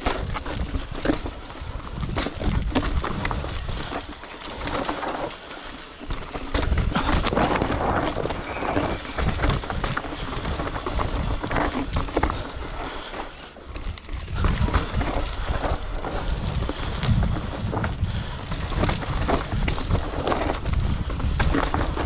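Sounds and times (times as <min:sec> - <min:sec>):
bike rattling and clattering: 0:00.0 - 0:22.0
tyres crunching over dirt and stones: 0:00.0 - 0:22.0.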